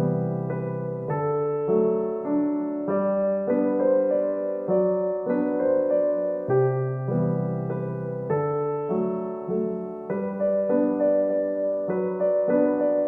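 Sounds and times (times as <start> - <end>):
gentle slow piano piece: 0.0 - 13.0.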